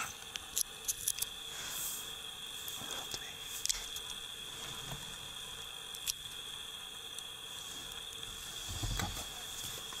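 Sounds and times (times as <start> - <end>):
even hiss: 0.0 - 10.0
high-pitched whine: 0.0 - 10.0.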